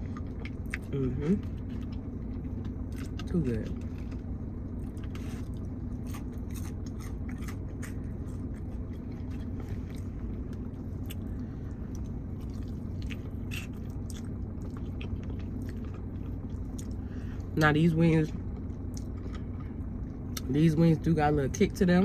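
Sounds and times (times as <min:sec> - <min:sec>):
chewing and crunching chicken wings: 0:00.0 - 0:21.8
car engine hum: 0:00.0 - 0:22.0.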